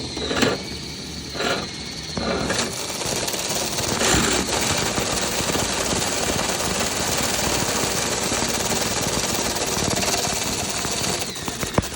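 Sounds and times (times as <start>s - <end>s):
dryer vent cleaner rattling: 0.0s - 11.9s.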